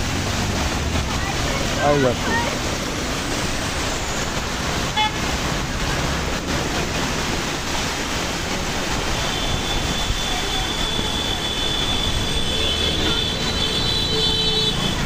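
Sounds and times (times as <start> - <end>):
heavy rain: 0.0 - 15.0
vehicles driving through water: 0.0 - 15.0.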